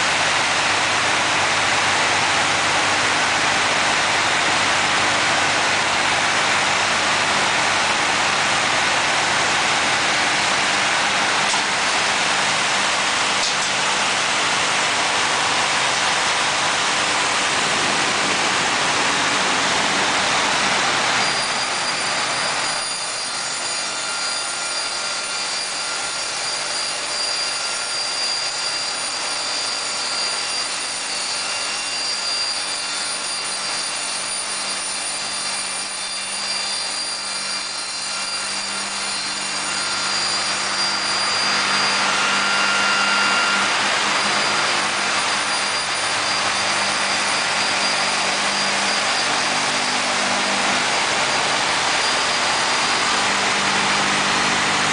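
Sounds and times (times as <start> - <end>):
saw machine cutting cork: 4.5 - 54.9.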